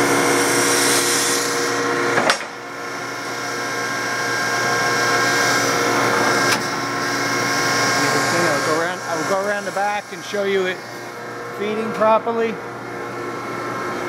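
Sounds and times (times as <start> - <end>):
knife grinder humming: 0.0 - 14.0.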